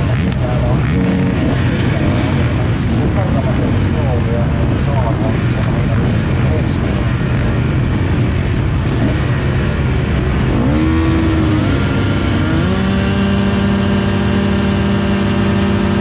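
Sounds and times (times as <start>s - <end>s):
motocross bike engine revving: 0.0s - 16.0s
rumble of other motocross engines: 0.0s - 16.0s.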